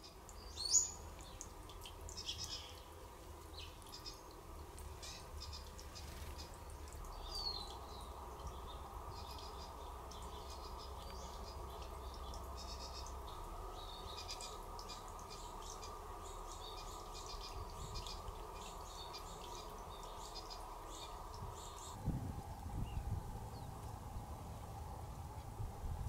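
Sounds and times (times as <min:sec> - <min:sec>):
steady low hiss: 0:00.0 - 0:26.0.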